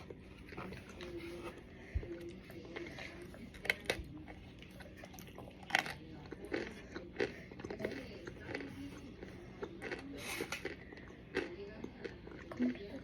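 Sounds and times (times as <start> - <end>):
biting and chewing crunches: 0.0 - 13.0.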